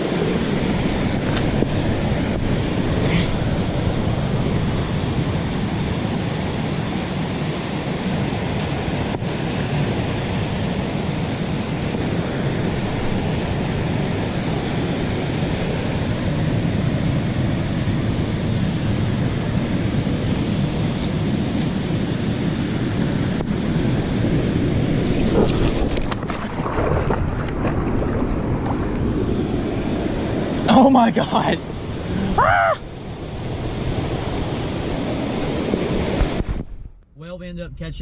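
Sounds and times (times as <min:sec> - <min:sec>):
waterfall roaring: 0:00.0 - 0:36.5.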